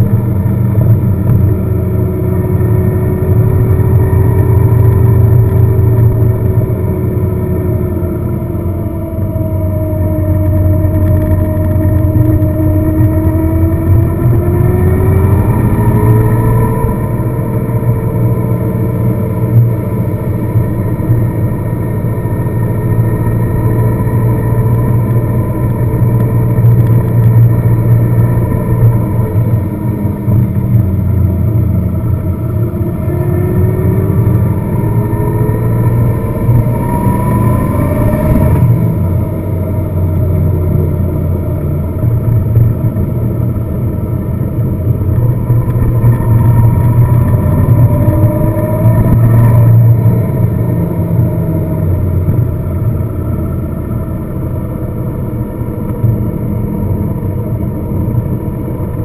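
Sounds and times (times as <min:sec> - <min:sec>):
car engine while driving: 0:00.0 - 0:59.0
road noise: 0:00.0 - 0:59.0.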